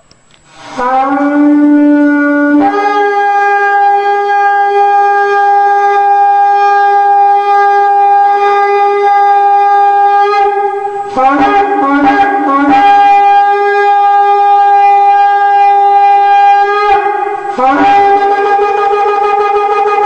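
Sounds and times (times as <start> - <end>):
shofar blast: 0.5 - 20.0.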